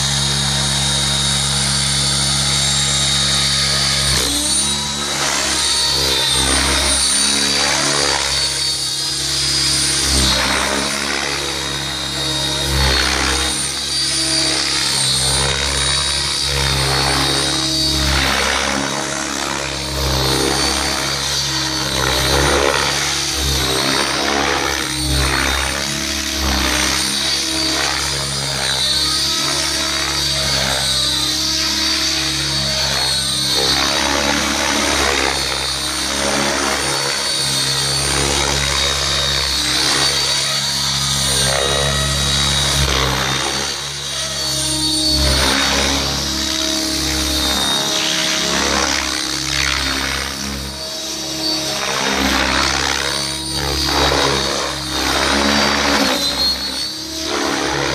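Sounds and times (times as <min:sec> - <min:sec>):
rc helicopter motor whine: 0:00.0 - 0:57.9.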